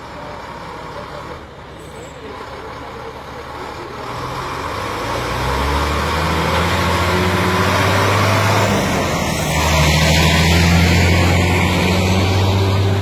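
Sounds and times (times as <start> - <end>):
fire truck engine passing: 0.0 - 13.0.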